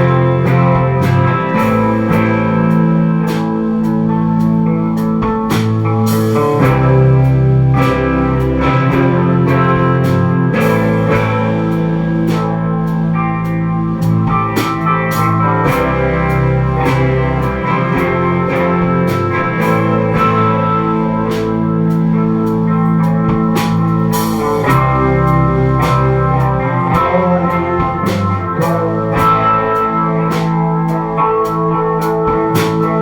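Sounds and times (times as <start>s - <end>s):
bass guitar: 0.0s - 33.0s
drum kit steady beat: 0.0s - 33.0s
guitars holding chords: 0.0s - 33.0s.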